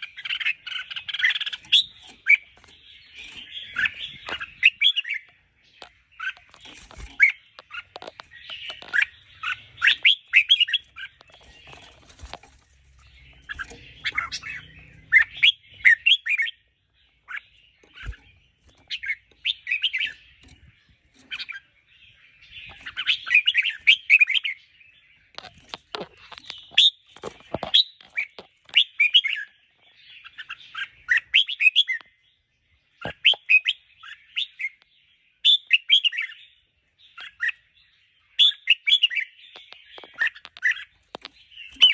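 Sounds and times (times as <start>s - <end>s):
bird singing warbled phrases: 0.0s - 41.9s.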